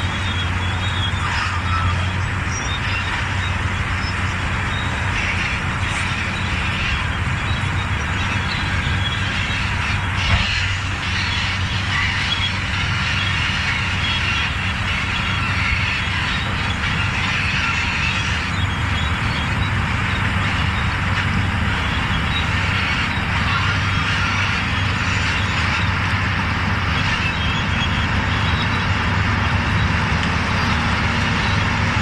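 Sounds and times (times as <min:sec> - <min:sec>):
diesel engine under load: 0:00.0 - 0:32.0
steel tracks clattering and squealing: 0:00.0 - 0:32.0.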